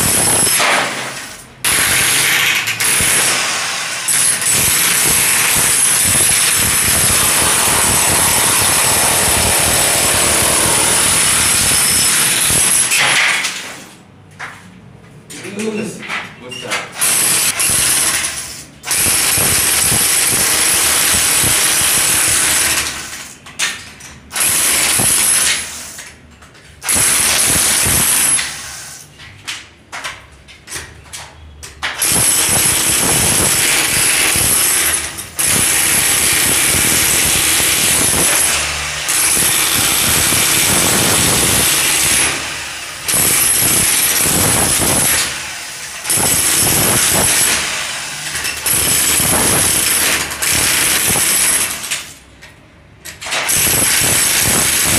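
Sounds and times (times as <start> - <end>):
demolition hammer chipping concrete: 0.0 - 13.6, 17.0 - 23.1, 24.3 - 25.8, 26.8 - 28.6, 31.8 - 52.2, 53.2 - 54.9.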